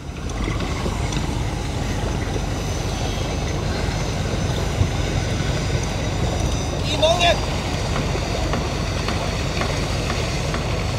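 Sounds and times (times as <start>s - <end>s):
diesel engine rumbling: 0.0s - 10.9s.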